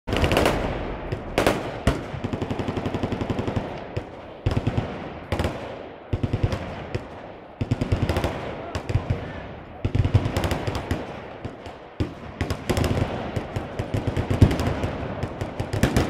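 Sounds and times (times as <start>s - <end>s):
machine guns firing in bursts: 0.1s - 16.0s.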